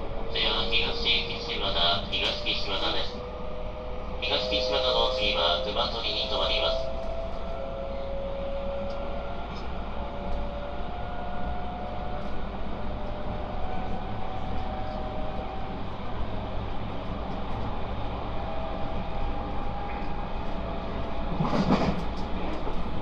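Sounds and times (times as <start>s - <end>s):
train rolling rumble: 0.0s - 23.0s.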